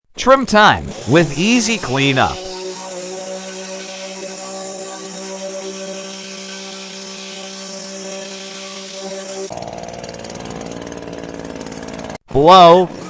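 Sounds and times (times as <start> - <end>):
hedge trimmer running: 0.5 - 12.2.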